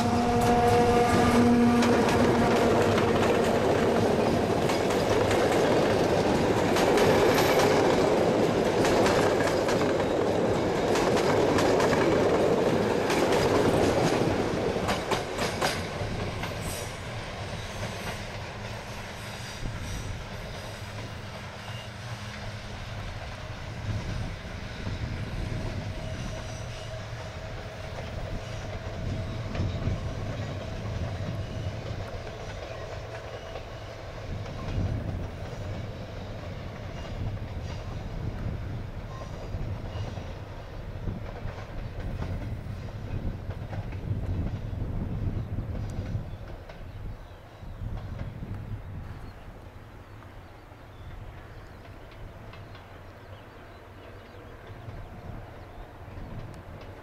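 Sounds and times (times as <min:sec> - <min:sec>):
wheels clacking over rail joints: 0:00.0 - 0:23.4, 0:25.0 - 0:48.7, 0:51.0 - 0:57.0
train rumbling past: 0:00.0 - 0:57.0.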